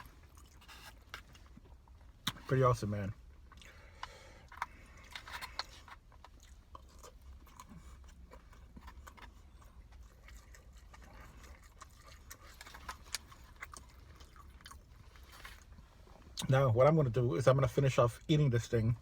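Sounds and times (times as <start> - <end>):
chewing food: 0.0 - 2.5, 3.2 - 16.5.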